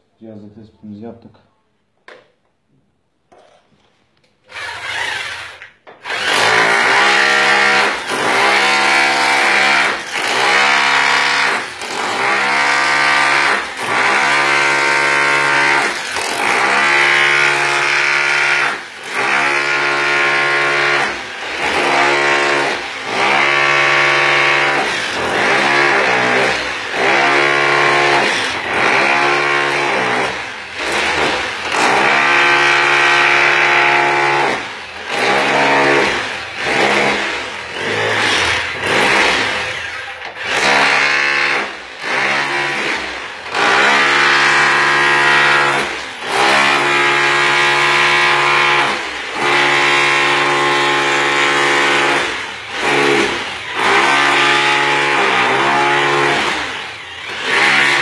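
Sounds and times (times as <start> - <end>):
rotary hammer chiselling tile: 3.3 - 58.0.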